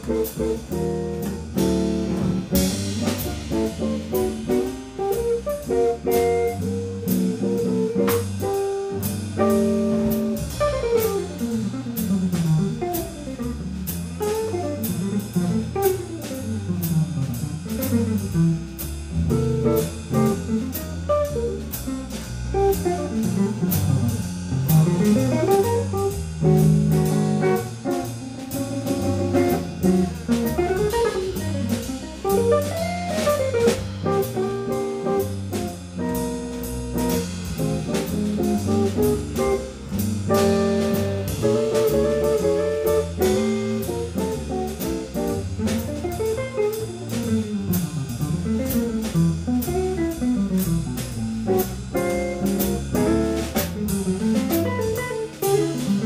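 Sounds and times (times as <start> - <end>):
drum kit cymbal: 0.0 - 56.0
walking double bass: 0.0 - 56.0.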